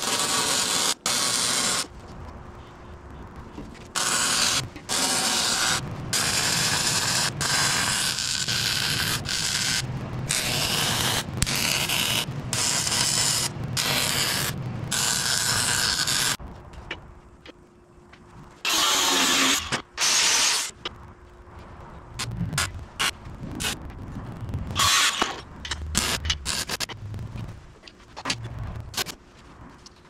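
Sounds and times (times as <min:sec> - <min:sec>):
welding hiss and crackle: 0:00.0 - 0:16.4, 0:18.4 - 0:28.0.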